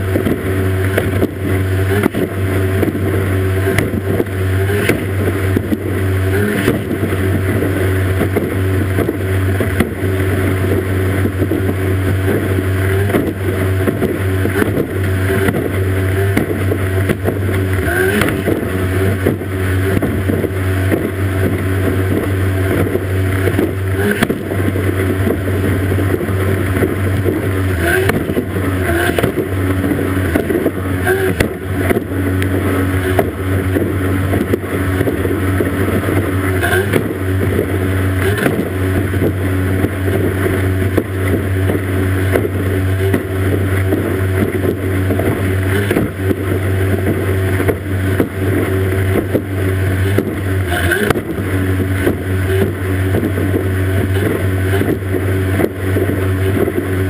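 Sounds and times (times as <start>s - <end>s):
hull knocking on water: 0.0s - 57.0s
outboard motor running hard: 0.0s - 57.0s
rushing water and spray: 0.0s - 57.0s.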